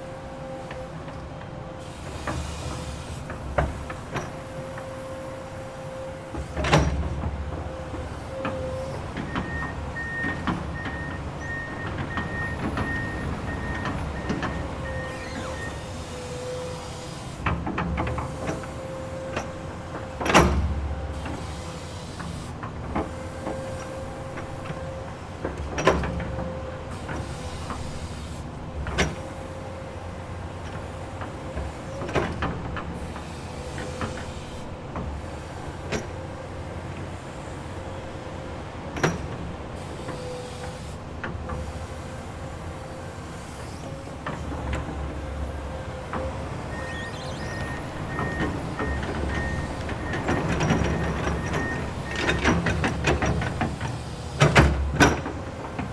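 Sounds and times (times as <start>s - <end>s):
excavator engine running: 1.2s - 55.9s.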